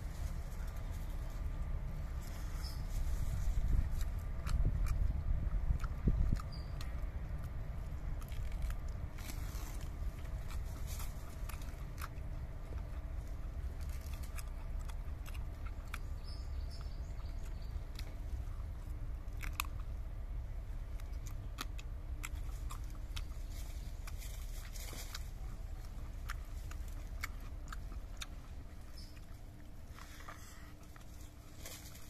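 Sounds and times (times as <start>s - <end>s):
low steady rumble: 0.0s - 32.0s
man chewing meat: 0.0s - 32.0s.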